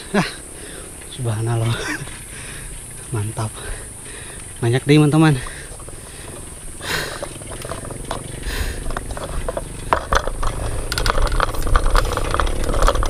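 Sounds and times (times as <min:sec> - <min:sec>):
bicycle clicks and rattles: 0:00.2 - 0:13.0.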